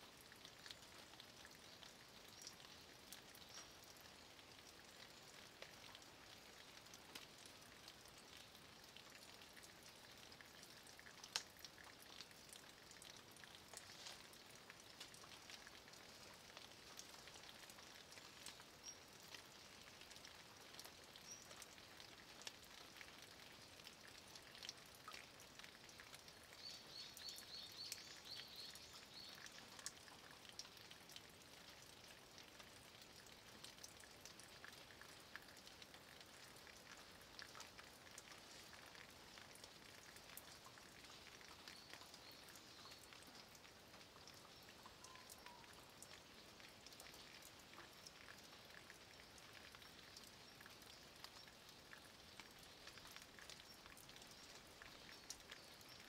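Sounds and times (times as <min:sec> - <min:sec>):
light rain on stone and leaves: 0:00.0 - 0:56.0
water drips: 0:00.0 - 0:56.0.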